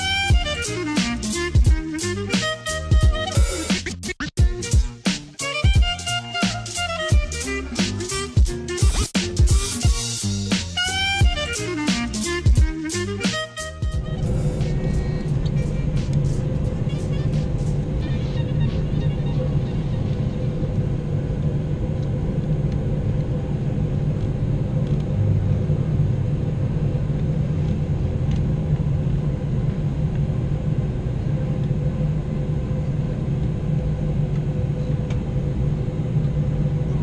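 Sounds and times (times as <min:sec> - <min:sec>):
airliner cabin engine drone: 0:04.6 - 0:37.0.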